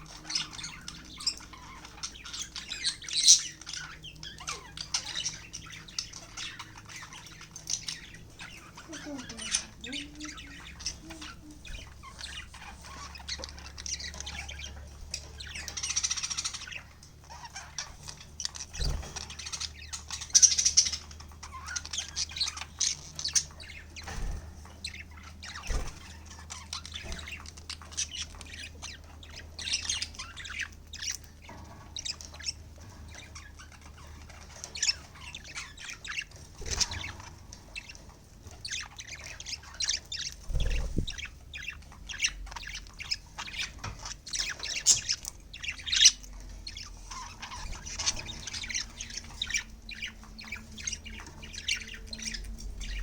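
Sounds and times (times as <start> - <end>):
budgerigars chirping and squawking: 0.0 - 53.0.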